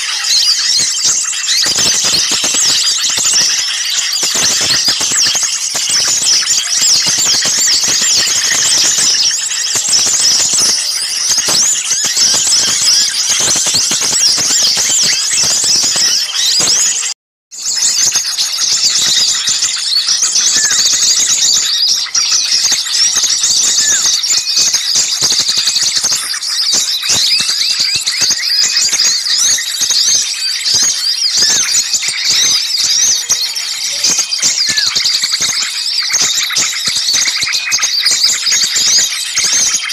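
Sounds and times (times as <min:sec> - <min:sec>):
songbirds chirping and scolding: 0:00.0 - 0:39.9.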